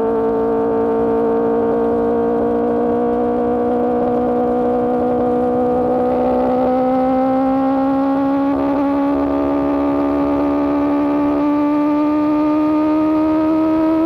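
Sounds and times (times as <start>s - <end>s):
motorcycle engine high-revving drone: 0.0s - 14.0s.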